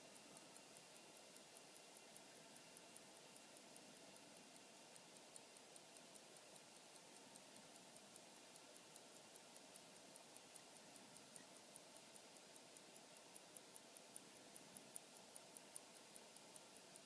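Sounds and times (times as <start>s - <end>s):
pocket watch ticking: 0.0s - 17.0s
quiet hiss: 0.0s - 17.0s.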